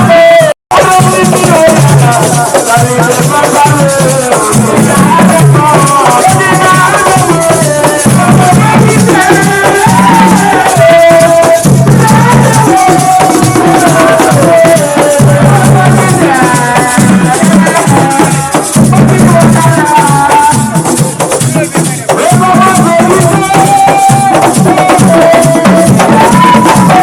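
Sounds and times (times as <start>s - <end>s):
low percussion pattern: 0.1s - 27.0s.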